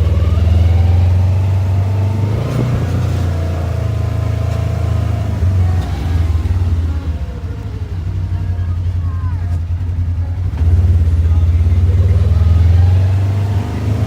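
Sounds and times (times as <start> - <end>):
off-road vehicle engine droning: 0.0 - 14.0.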